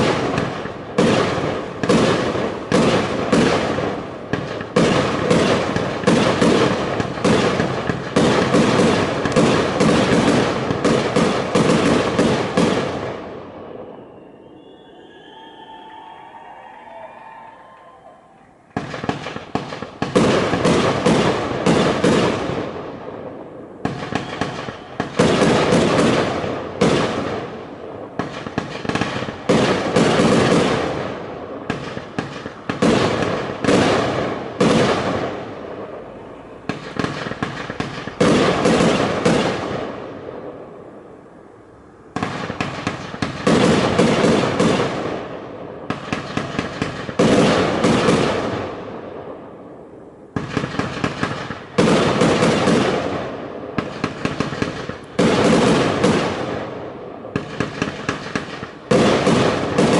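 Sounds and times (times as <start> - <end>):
fireworks bursting: 0.0 - 41.5, 42.1 - 59.9.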